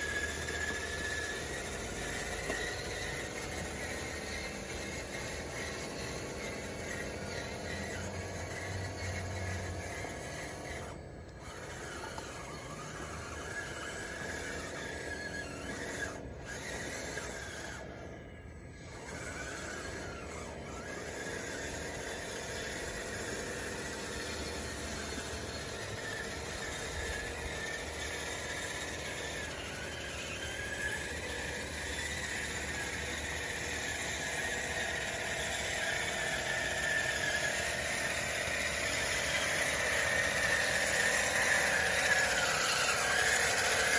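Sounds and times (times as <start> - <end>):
electric motors and gears whining: 0.0 - 43.9.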